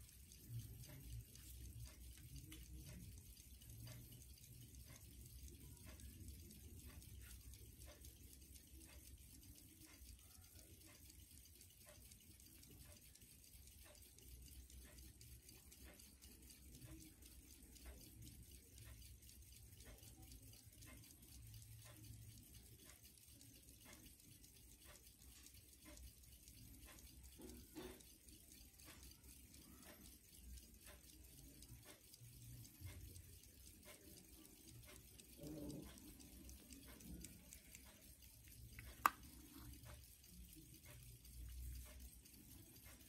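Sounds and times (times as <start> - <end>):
pocket watch ticking: 0.0 - 43.0.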